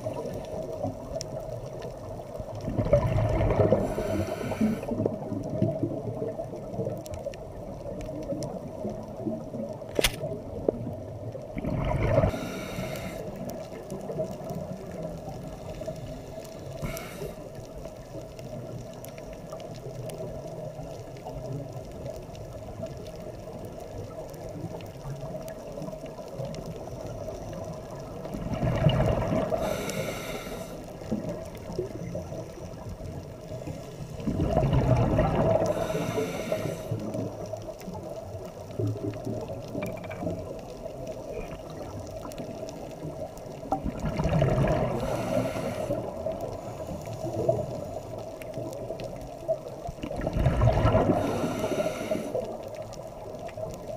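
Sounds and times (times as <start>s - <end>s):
scuba bubbles gurgling: 0.0s - 53.9s
underwater low hum: 0.0s - 53.9s.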